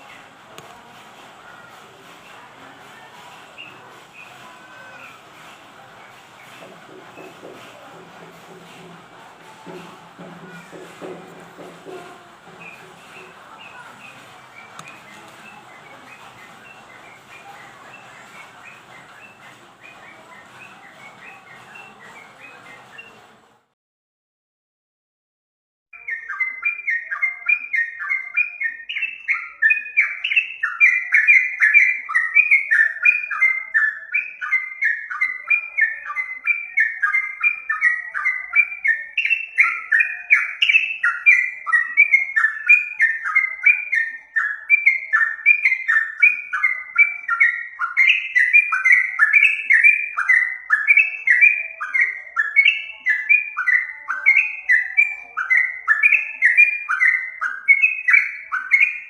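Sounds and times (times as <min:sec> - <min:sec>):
bird chirping: 0:00.0 - 0:23.5, 0:26.0 - 0:59.0.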